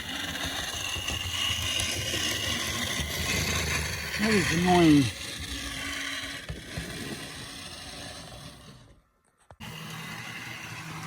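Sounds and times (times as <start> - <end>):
model locomotive motor whirring: 0.0 - 9.0, 9.6 - 11.0.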